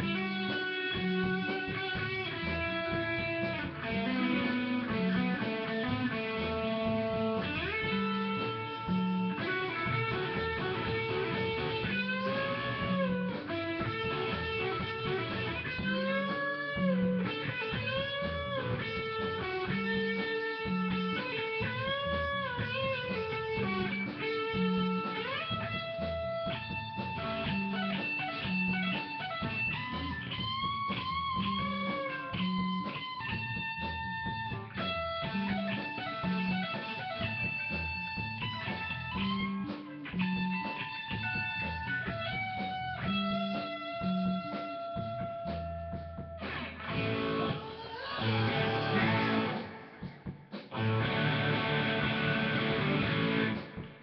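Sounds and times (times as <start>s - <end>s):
low bass notes: 0.0s - 47.6s, 48.2s - 54.0s
electric guitar lead: 0.0s - 54.0s
rock band playing: 0.0s - 54.0s.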